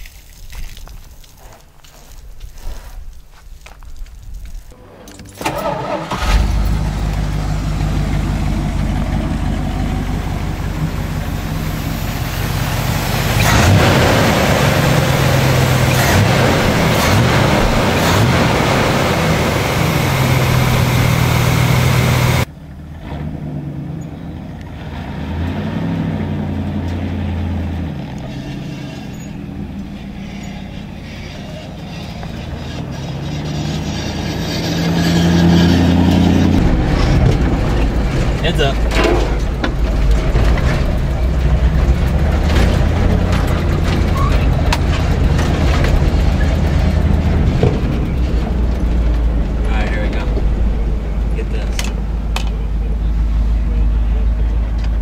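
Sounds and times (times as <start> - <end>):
truck driving: 4.3 - 55.0
engine starting and running: 4.7 - 55.0.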